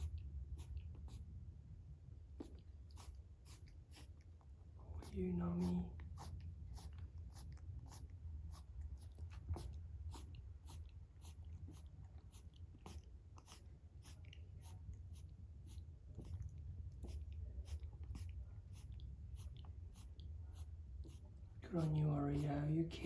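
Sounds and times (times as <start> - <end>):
low steady hum: 0.0 - 23.0
rabbit chewing: 0.0 - 23.0.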